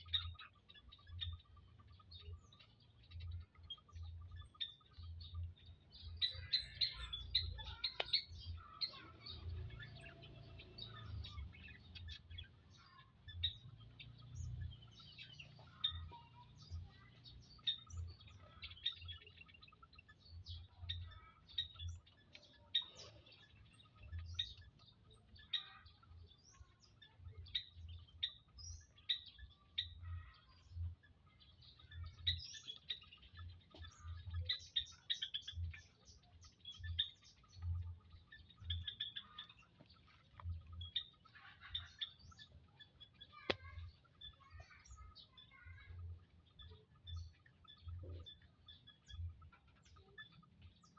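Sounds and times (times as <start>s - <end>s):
quail chirping: 0.0s - 50.9s.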